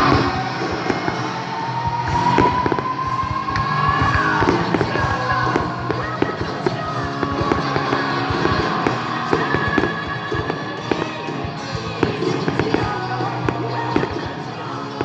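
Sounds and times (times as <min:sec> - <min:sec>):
fireworks banging and crackling: 0:00.0 - 0:15.0
loud music: 0:00.0 - 0:15.0.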